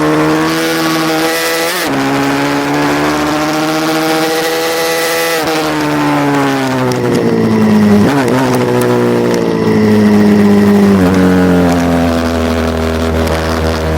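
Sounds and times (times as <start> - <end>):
motorcycle engine running hard: 0.0 - 13.9.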